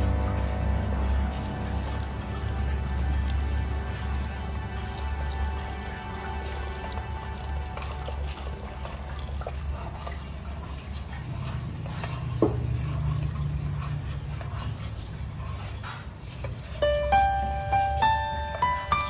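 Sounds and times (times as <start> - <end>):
metal ladle stirring: 0.0 - 17.6
liquid pouring into pot: 0.6 - 16.3.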